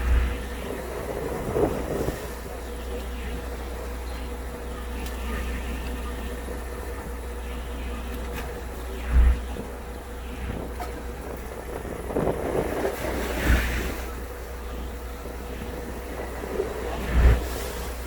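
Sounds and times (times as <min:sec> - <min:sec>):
sea noise: 0:00.0 - 0:18.0
steady low hum: 0:00.0 - 0:18.0
wind: 0:00.0 - 0:18.0
wind buffeting microphone: 0:00.0 - 0:18.0.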